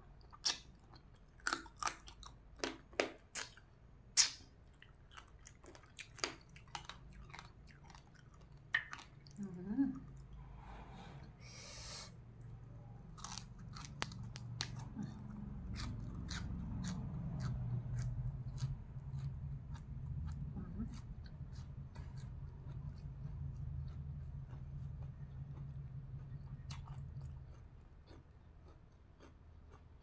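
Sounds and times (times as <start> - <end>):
person chewing crunchy vegetables: 0.2 - 3.6, 4.2 - 10.4, 11.4 - 30.0.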